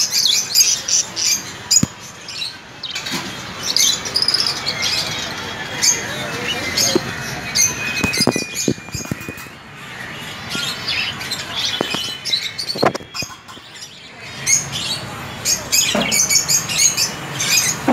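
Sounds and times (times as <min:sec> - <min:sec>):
small birds chirping and chattering: 0:00.0 - 0:17.9.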